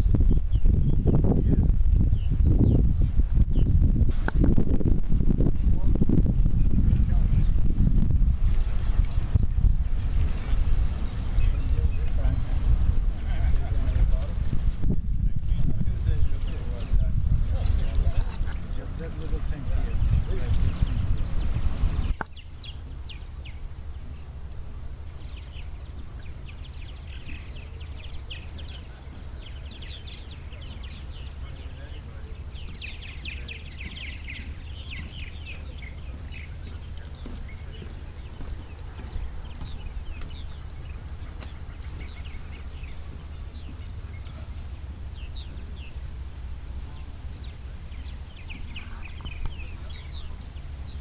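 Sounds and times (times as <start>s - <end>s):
small birds chirping: 0.0s - 51.0s
steady low rumble: 0.0s - 51.0s.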